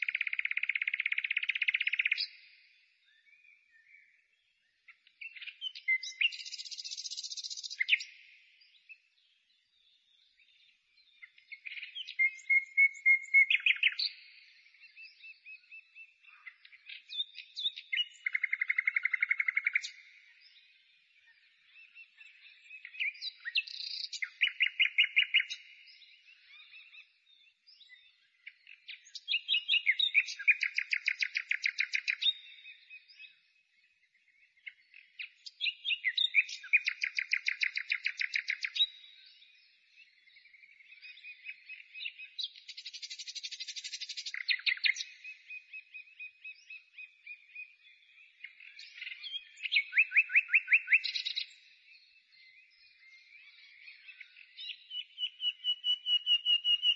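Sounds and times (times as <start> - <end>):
songbird singing trills: 0.0 - 56.9.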